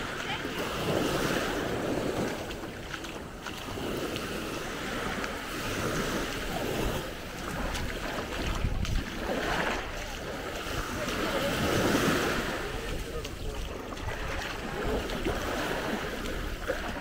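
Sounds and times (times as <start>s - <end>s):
small waves on sandy shore: 0.0s - 17.0s
wind rumble on microphone: 0.0s - 17.0s.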